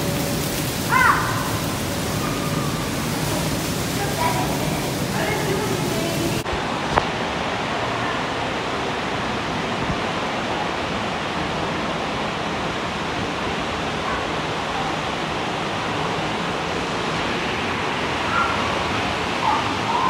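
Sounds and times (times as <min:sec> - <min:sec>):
rush of falling water: 0:00.0 - 0:20.0.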